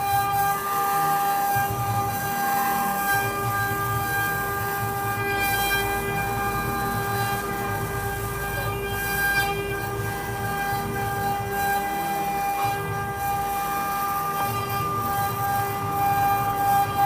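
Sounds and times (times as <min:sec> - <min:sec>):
router spindles high whine: 0:00.0 - 0:17.0.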